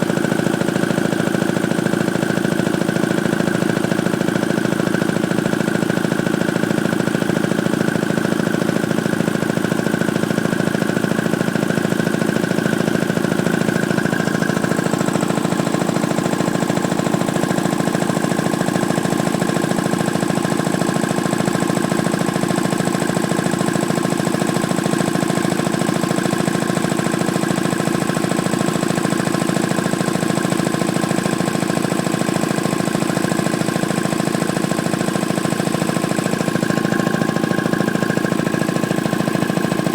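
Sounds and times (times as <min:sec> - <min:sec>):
piston air compressor running: 0:00.0 - 0:39.9.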